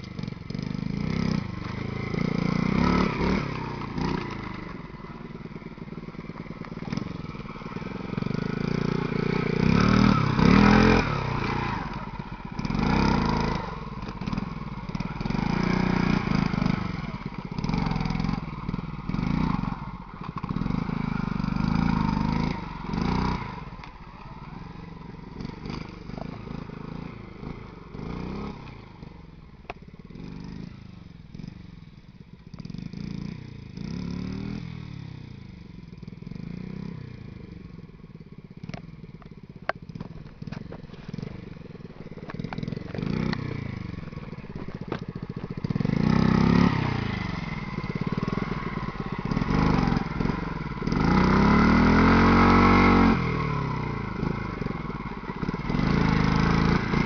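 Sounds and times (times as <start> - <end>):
minibike engine revving: 0.0 - 57.0.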